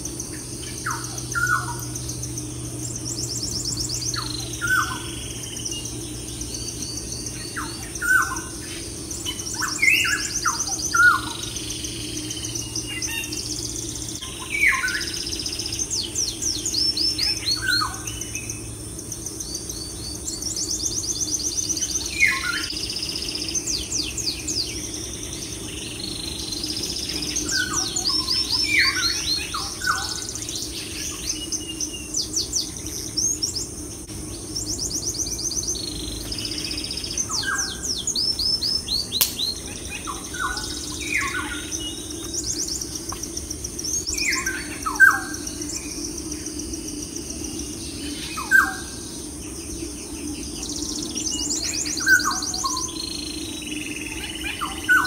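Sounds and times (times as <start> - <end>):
birds singing: 0.0 - 55.0
steady low hum: 0.0 - 55.0.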